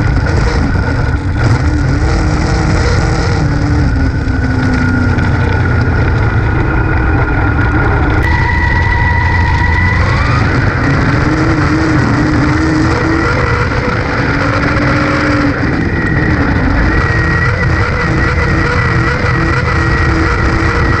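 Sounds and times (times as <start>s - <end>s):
race car engine running hard: 0.0s - 21.0s
road and wind noise: 0.0s - 21.0s.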